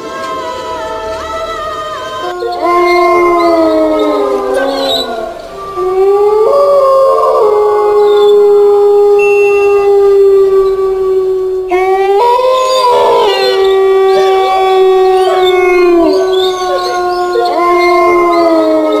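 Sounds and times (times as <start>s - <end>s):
dogs howling in chorus: 0.0s - 19.0s.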